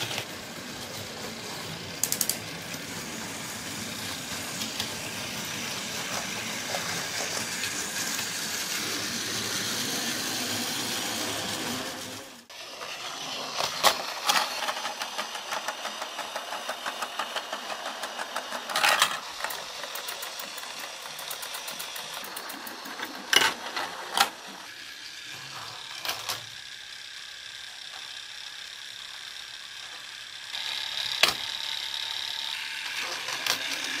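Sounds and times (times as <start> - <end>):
toy train motor whirring: 0.0 - 34.0.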